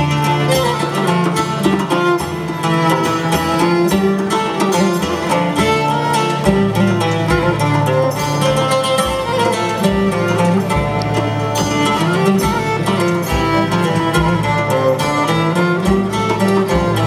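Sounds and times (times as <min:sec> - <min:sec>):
plucked strings strumming: 0:00.0 - 0:17.0
violin playing melody: 0:00.0 - 0:17.0.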